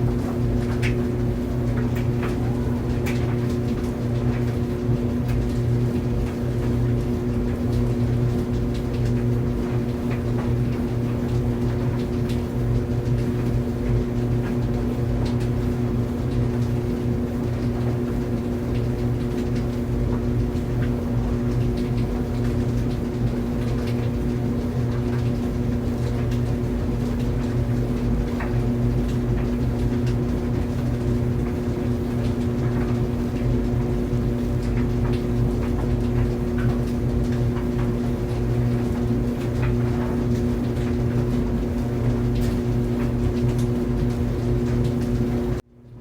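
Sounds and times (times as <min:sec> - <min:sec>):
clothes dryer motor hum: 0:00.0 - 0:46.0.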